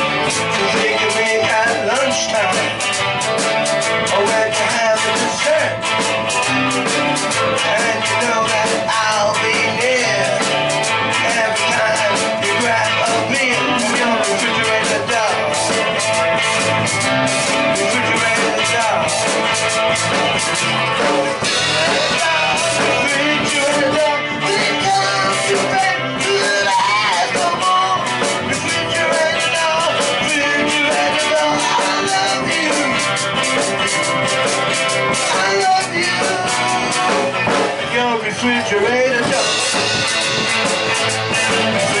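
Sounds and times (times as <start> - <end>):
electric guitar: 0.0 - 42.0
steady drum beat: 0.0 - 42.0.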